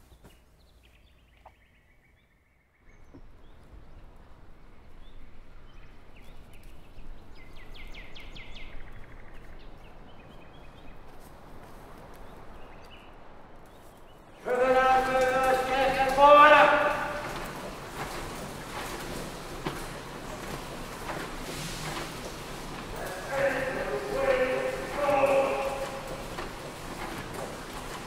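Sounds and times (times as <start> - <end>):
birds chirping and trilling: 0.0 - 28.0
wind: 0.0 - 28.0.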